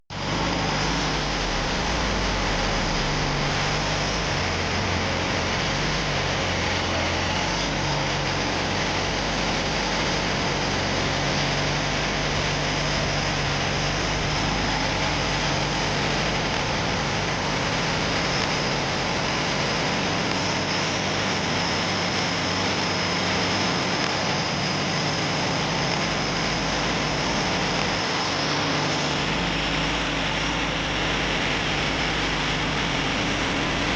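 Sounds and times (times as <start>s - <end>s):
boat engine running: 0.1s - 33.9s.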